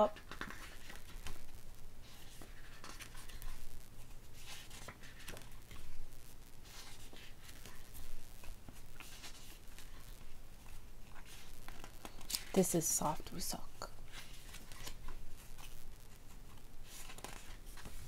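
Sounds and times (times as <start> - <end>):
photobook pages turning: 0.2 - 6.0, 6.6 - 18.0.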